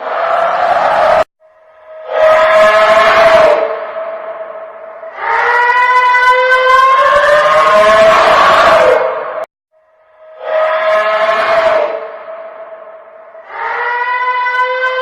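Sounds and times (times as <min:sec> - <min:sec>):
loud horn-like drone: 0:01.6 - 0:09.0, 0:09.9 - 0:15.0.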